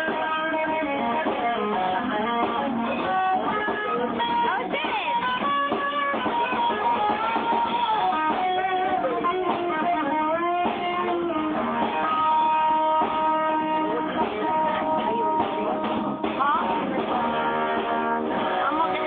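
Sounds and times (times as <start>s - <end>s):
electric guitar lead: 0.0s - 19.0s
live band playing: 0.0s - 19.0s.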